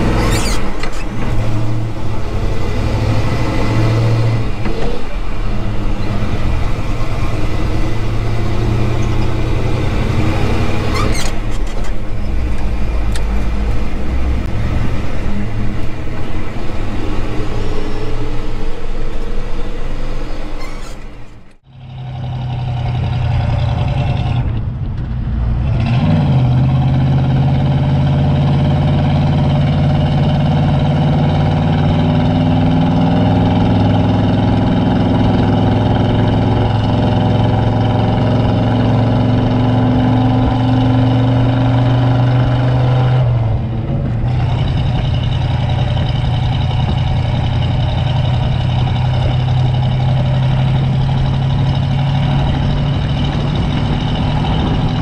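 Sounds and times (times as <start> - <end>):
truck engine running: 0.0 - 25.5, 26.6 - 55.0
tyre and road noise: 0.0 - 55.0.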